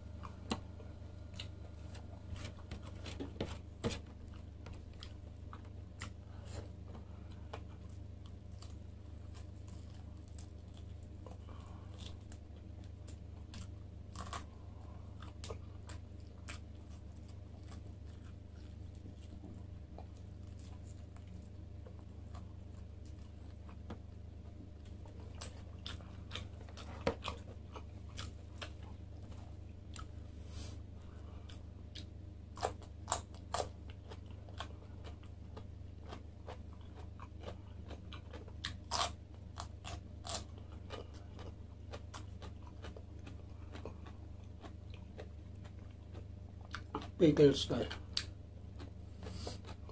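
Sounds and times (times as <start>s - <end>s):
steady low hum: 0.0s - 49.9s
chewing and biting meat: 0.1s - 30.2s, 31.3s - 49.9s.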